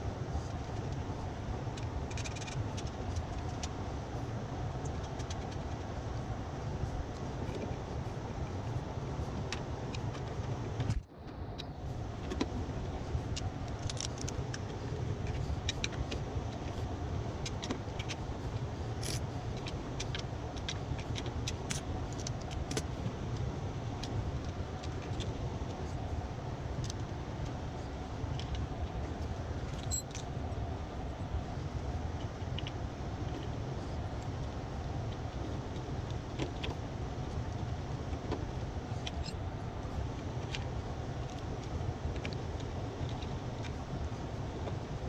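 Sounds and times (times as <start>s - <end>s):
low hum of equipment: 0.0s - 45.0s.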